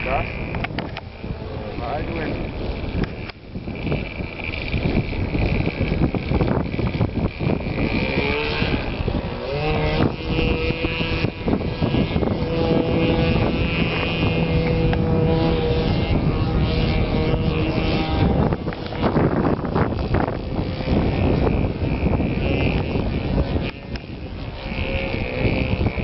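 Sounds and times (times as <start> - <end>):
model plane engine running: 0.0 - 26.0
wind buffeting microphone: 0.0 - 26.0.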